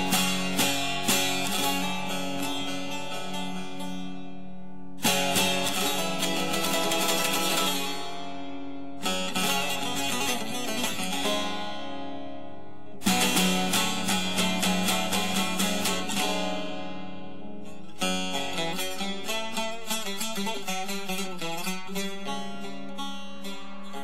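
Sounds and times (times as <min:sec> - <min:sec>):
plucked string instrument music: 0:00.0 - 0:24.0.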